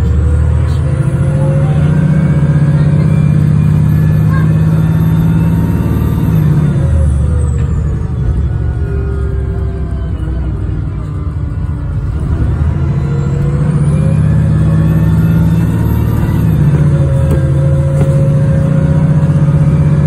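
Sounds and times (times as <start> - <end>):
bus diesel engine accelerating: 0.0 - 20.0.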